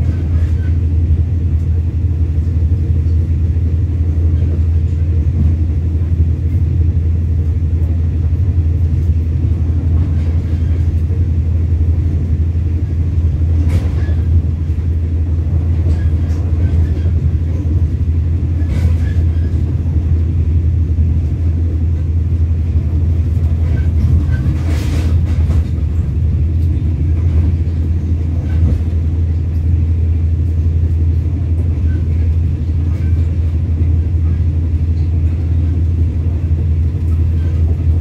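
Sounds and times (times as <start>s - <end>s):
train rumble inside coach: 0.0s - 38.0s.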